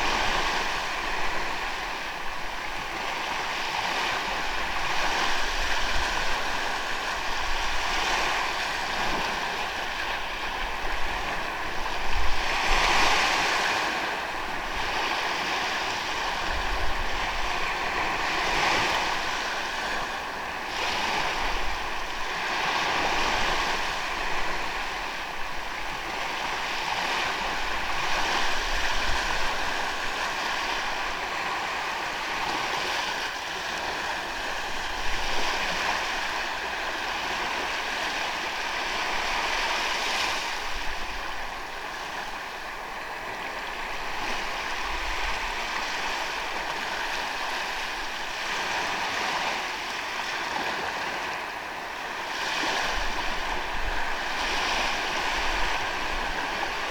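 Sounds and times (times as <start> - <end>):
ocean waves breaking on beach: 0.0 - 56.9
wind rumble on microphone: 0.0 - 56.9.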